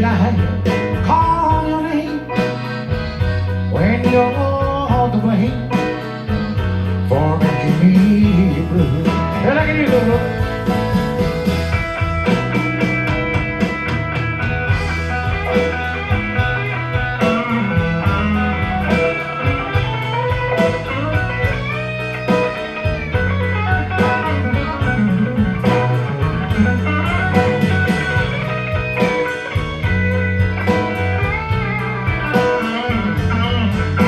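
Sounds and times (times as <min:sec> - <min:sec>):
bass line: 0:00.0 - 0:34.0
steady beat: 0:00.0 - 0:34.0
electric guitar solo: 0:05.6 - 0:34.0.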